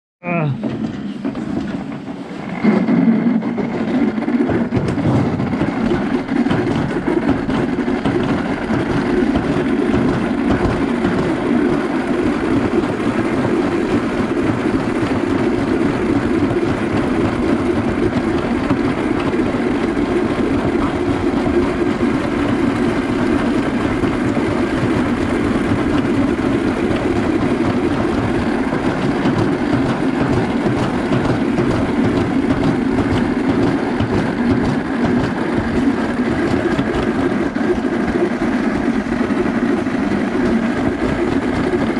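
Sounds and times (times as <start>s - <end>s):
sled rattling down metal chute: 0.4s - 41.9s.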